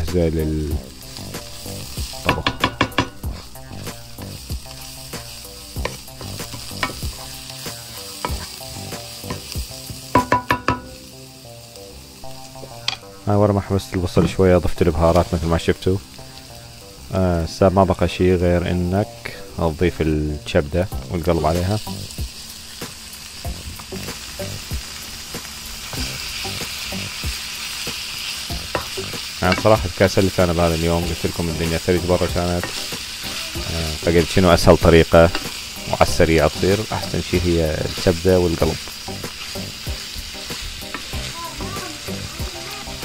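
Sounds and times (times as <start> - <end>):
onions sizzling in frying pan: 0.0 - 43.0.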